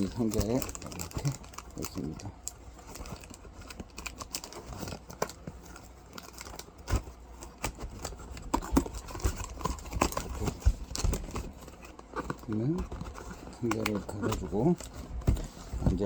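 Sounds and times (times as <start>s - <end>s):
cardboard being handled: 0.0s - 16.0s
plastic crinkling: 0.0s - 16.0s.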